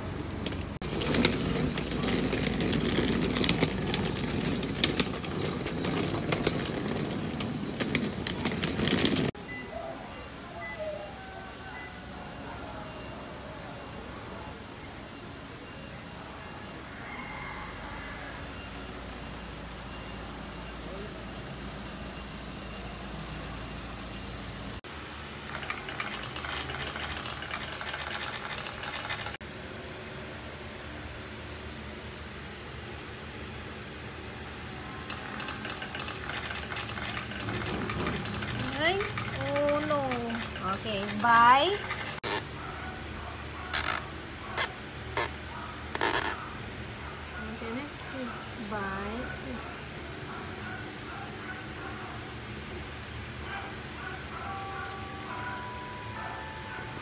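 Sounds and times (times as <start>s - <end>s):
vehicle engines rumbling: 0.0s - 57.0s.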